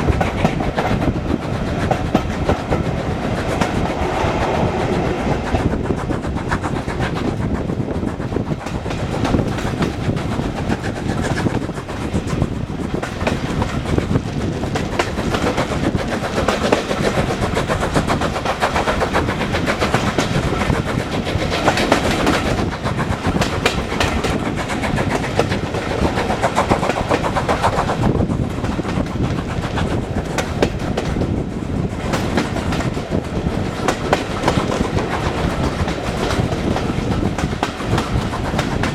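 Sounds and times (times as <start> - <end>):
train wheels clicking over rails: 0.0 - 38.9.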